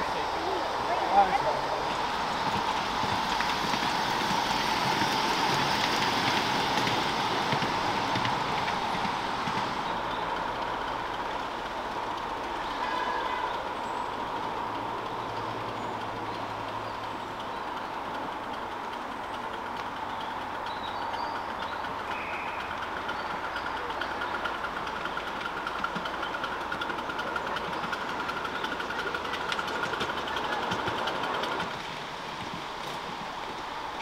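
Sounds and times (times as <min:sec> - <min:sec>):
fast clicks of train wheels: 0:00.0 - 0:34.0
miniature railway train running: 0:00.0 - 0:34.0.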